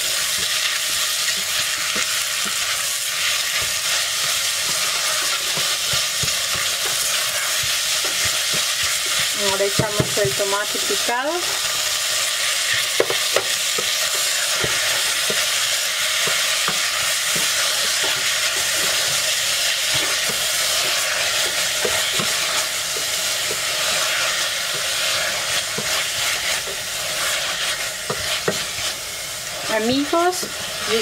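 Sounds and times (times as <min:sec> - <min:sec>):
meat frying in oil: 0:00.0 - 0:31.0
spatula scraping pot: 0:00.0 - 0:31.0.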